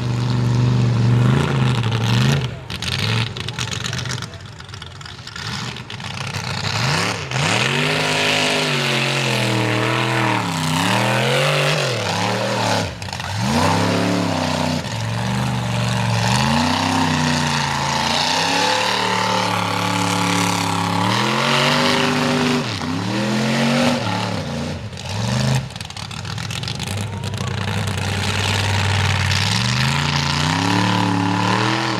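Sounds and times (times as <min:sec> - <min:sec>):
truck engine revving: 0:00.0 - 0:31.9.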